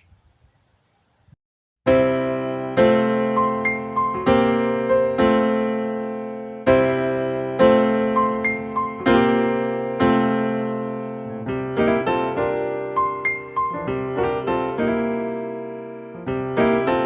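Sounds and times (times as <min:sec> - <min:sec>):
slow piano chords: 0:01.9 - 0:17.0.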